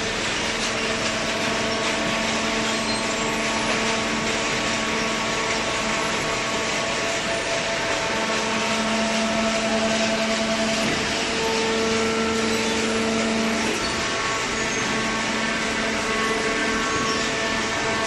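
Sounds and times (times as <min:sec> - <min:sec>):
hydraulic baler droning: 0:00.0 - 0:18.0.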